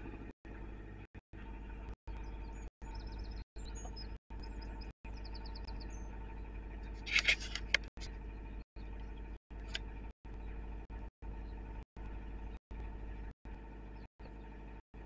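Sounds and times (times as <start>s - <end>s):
steady low engine hum: 0.0s - 15.0s
small birds chirping: 1.6s - 15.0s.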